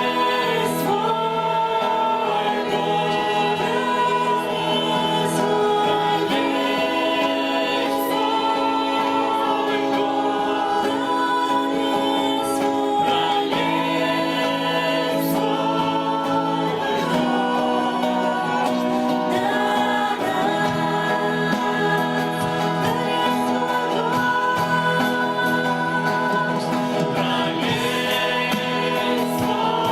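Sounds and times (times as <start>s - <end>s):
sustained instrumental accompaniment: 0.0s - 29.9s
worship song vocals: 0.0s - 29.9s.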